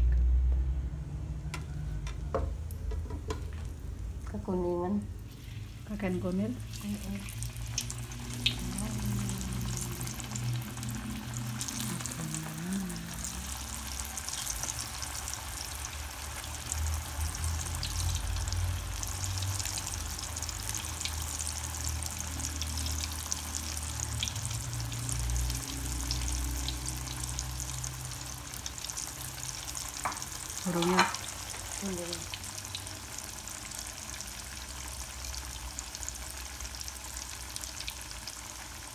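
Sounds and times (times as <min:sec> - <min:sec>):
food frying in hot oil: 0:01.7 - 0:38.9.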